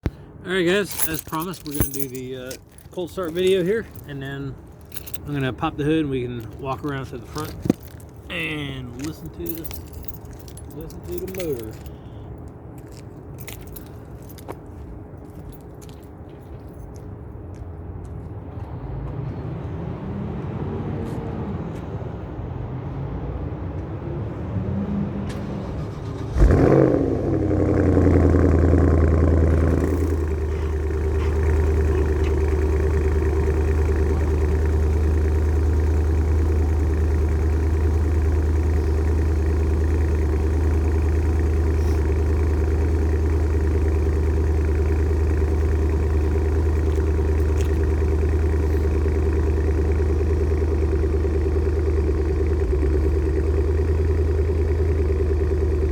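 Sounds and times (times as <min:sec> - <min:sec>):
car engine starting and idling: 0:00.0 - 0:55.9.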